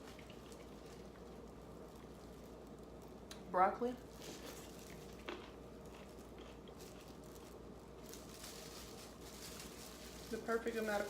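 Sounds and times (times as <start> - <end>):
crunchy chewing: 0.0 - 3.4, 4.0 - 10.4.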